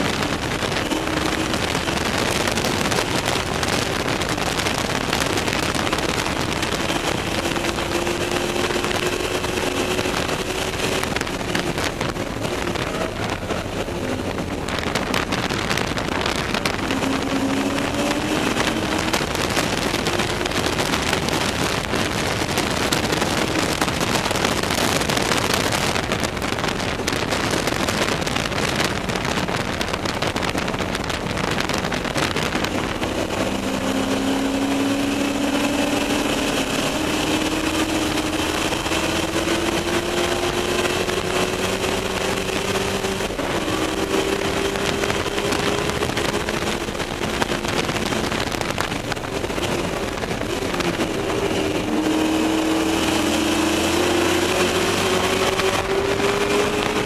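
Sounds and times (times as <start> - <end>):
race car engine revving: 0.0 - 57.0
wind and road noise: 0.0 - 57.0.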